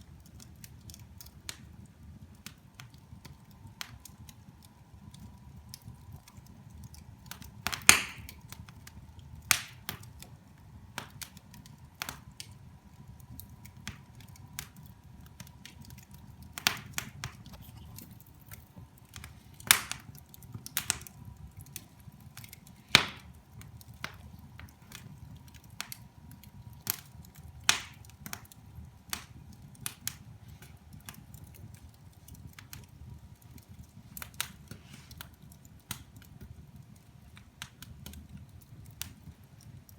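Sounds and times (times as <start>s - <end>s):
wood fire crackling: 0.0s - 39.9s
sharp pops of fire: 0.2s - 39.9s.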